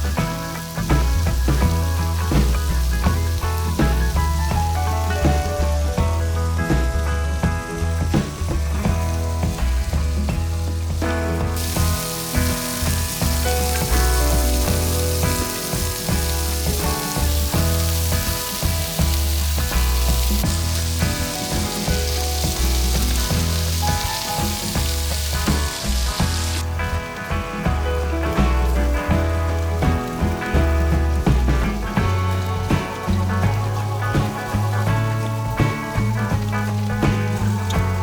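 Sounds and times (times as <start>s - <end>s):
background music with bass: 0.0s - 38.0s
food frying sizzle: 0.0s - 38.0s.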